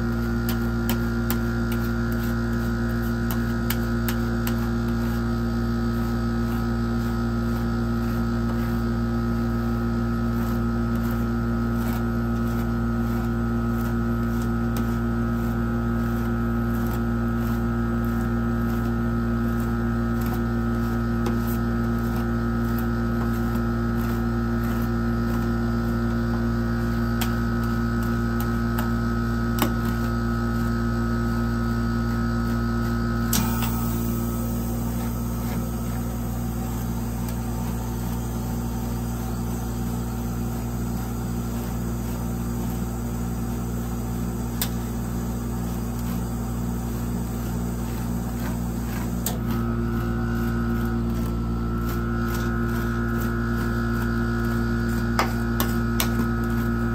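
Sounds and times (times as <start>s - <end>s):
refrigeration unit humming: 0.0s - 56.9s.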